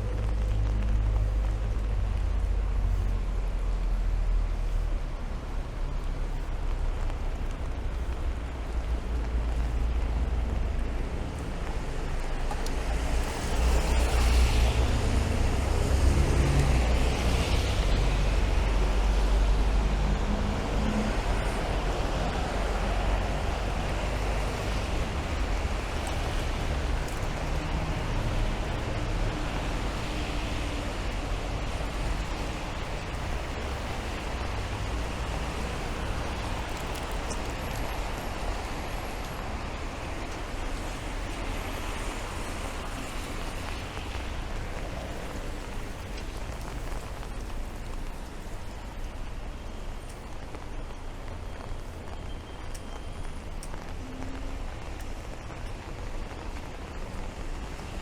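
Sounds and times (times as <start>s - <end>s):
rumble of road traffic: 0.0s - 58.0s
steady rain: 0.0s - 58.0s.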